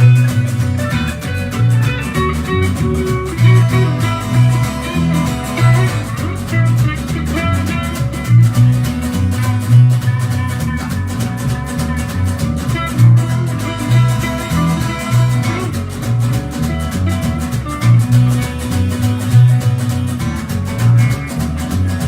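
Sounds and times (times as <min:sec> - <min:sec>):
drum kit beat: 0:00.0 - 0:22.0
electric guitar: 0:00.0 - 0:22.0.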